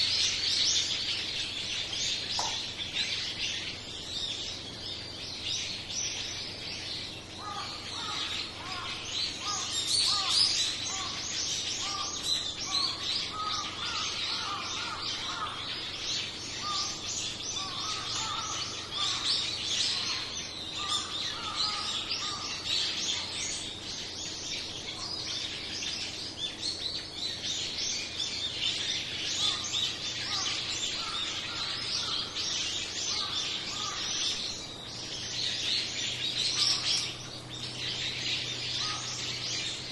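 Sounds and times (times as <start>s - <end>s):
flock of birds chirping: 0.0s - 39.9s
lower bird call: 0.0s - 39.9s.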